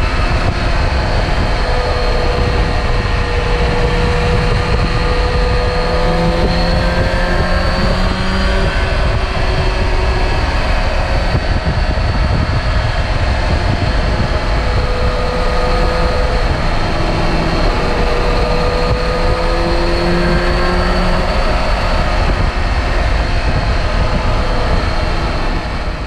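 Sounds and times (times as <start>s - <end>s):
heavy low rumble: 0.0s - 26.0s
motorcycle engine running: 0.0s - 26.0s.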